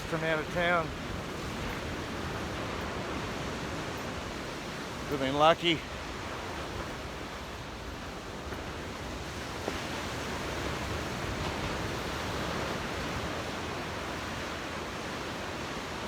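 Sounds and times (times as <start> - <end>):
ocean surf washing ashore: 0.0 - 16.0.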